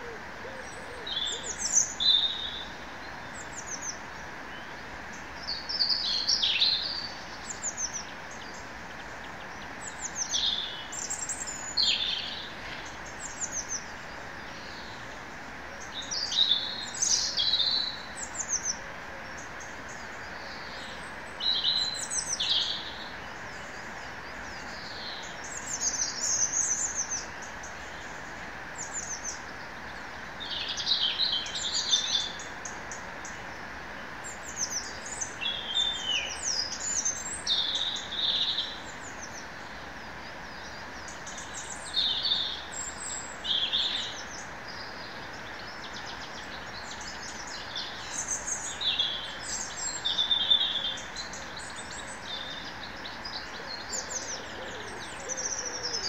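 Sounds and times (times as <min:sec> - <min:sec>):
songbirds chirping and trilling: 0:00.0 - 0:56.0
steady background hiss: 0:00.0 - 0:56.0.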